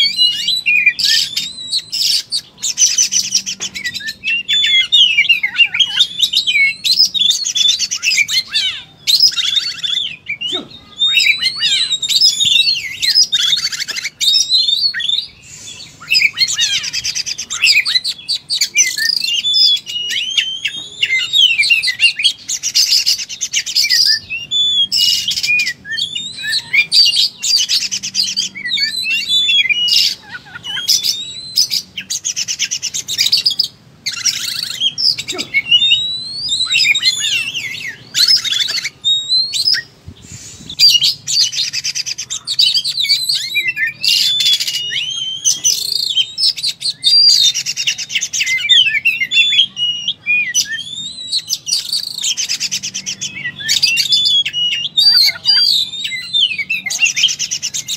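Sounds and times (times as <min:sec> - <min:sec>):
songbird whistled song: 0:00.0 - 0:57.9.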